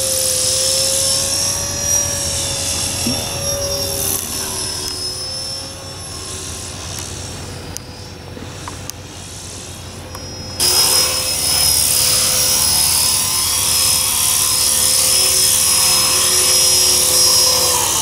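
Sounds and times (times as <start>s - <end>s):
model helicopter rotor whining: 0.0s - 18.0s.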